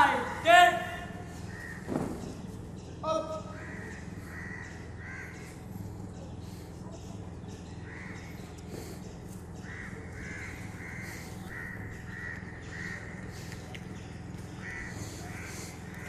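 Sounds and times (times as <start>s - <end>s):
bird calling: 0.0s - 16.0s
low steady hum: 0.0s - 16.0s.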